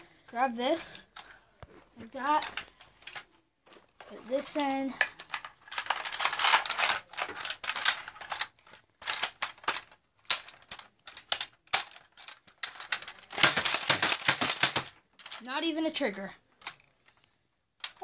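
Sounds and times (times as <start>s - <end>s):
plastic clicking and clattering: 1.1s - 15.5s, 16.6s - 18.0s.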